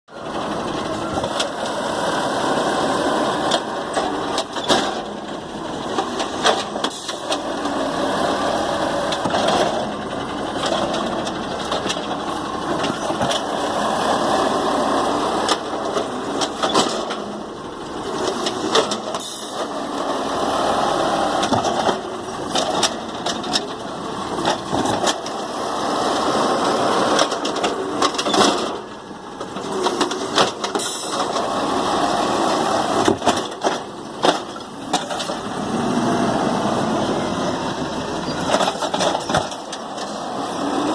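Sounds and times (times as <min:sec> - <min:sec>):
garbage truck engine running: 0:00.1 - 0:40.9.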